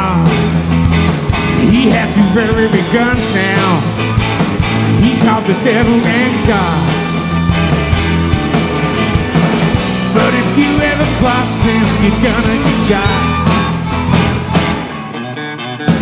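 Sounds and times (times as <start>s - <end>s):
blues-rock band playing: 0.0s - 16.0s
wailing lead guitar: 0.0s - 16.0s.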